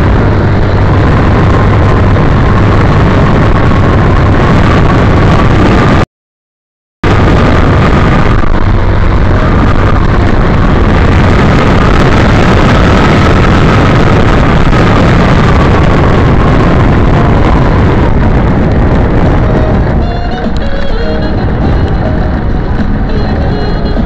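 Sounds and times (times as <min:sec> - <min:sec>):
wind buffeting microphone: 0:00.0 - 0:06.0, 0:07.0 - 0:24.0.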